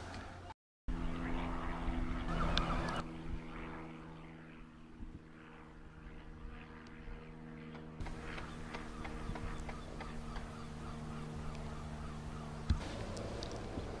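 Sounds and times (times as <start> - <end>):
distant engine drone: 0.0 - 14.0.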